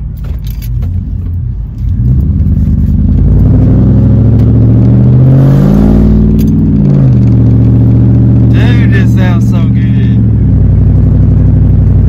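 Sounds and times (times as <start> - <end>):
loud truck exhaust accelerating: 0.0 - 12.0.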